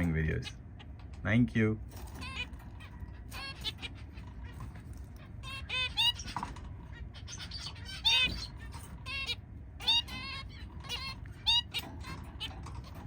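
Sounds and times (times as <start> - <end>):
birds ticking and scratching: 0.0 - 13.0
finches calling: 2.2 - 13.0.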